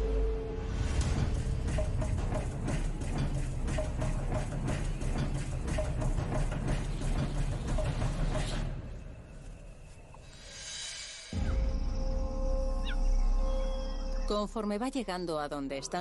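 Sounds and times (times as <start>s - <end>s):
low rumbling drone music: 0.0s - 16.0s.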